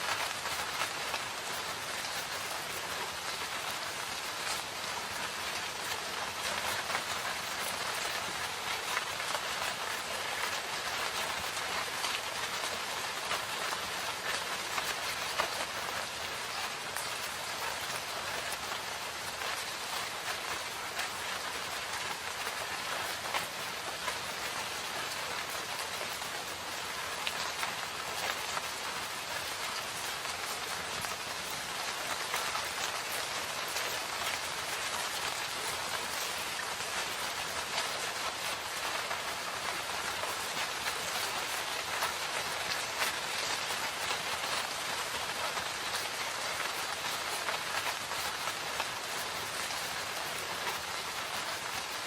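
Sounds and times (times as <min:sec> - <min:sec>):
rain hissing: 0:00.0 - 0:52.0
raindrops pattering on leaves: 0:00.0 - 0:52.0.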